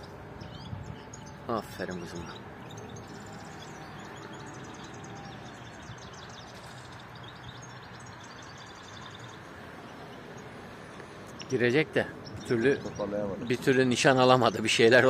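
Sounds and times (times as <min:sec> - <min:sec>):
outdoor background hiss: 0:00.0 - 0:15.0
small birds chirping: 0:00.0 - 0:15.0.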